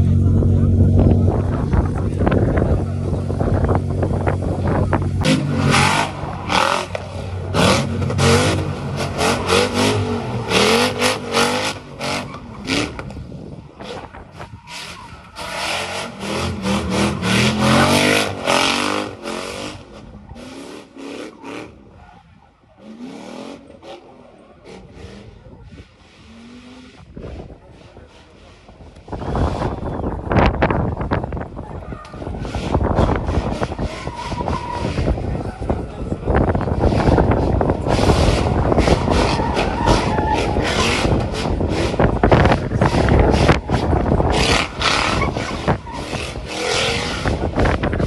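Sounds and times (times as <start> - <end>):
car engines revving hard: 0.0 - 48.0.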